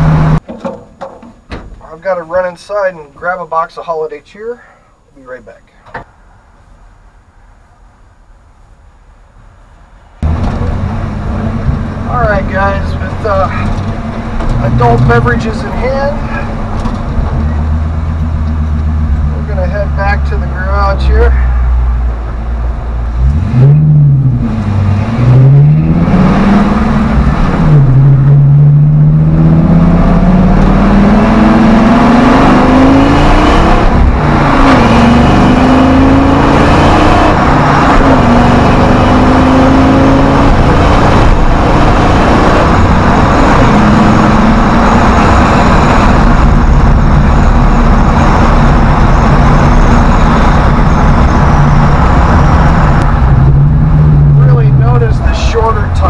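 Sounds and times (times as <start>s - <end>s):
engine shifting through gears: 0.0s - 0.4s, 10.2s - 56.0s.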